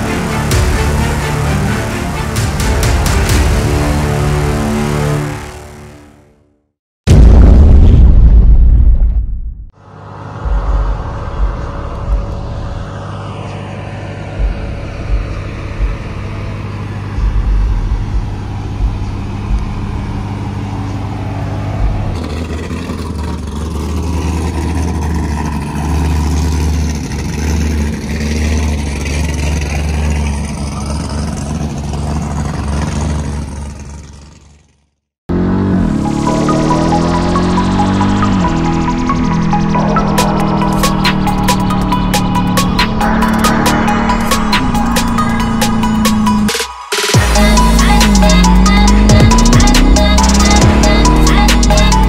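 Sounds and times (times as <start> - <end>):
car engine revving: 0.0 - 6.3, 9.8 - 52.0.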